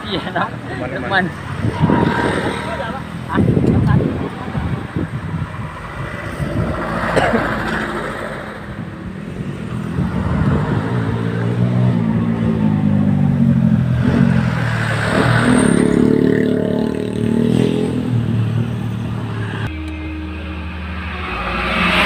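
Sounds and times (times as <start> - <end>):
motorcycle engines passing: 0.0 - 22.0
truck engine passing: 0.0 - 22.0.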